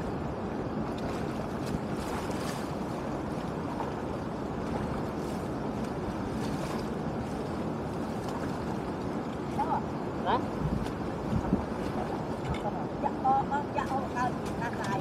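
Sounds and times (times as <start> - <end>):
water rushing: 0.0 - 15.0
water splashes: 0.0 - 15.0.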